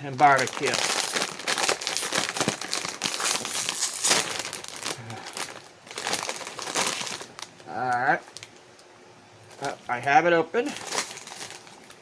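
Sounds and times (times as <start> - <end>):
potato chip bag crinkling: 0.0 - 8.6, 9.4 - 12.0.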